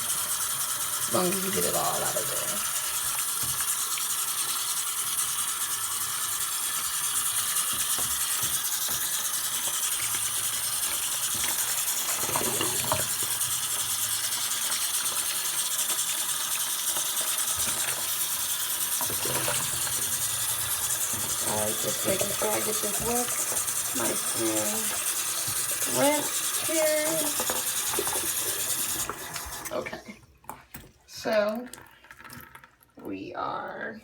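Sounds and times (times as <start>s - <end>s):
tap water running into sink: 0.0s - 33.2s.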